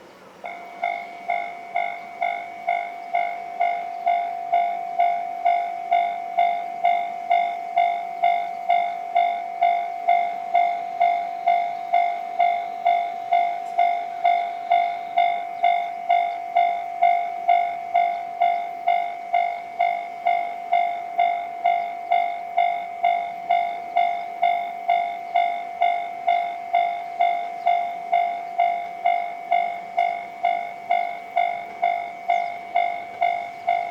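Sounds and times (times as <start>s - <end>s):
level crossing warning bell: 0.0s - 33.9s.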